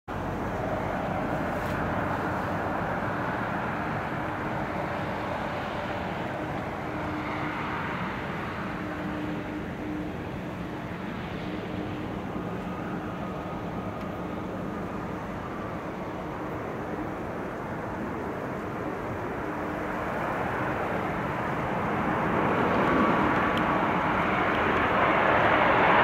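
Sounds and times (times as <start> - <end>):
faint droning tone: 0.1 - 26.0
jet engine rushing: 0.2 - 26.0.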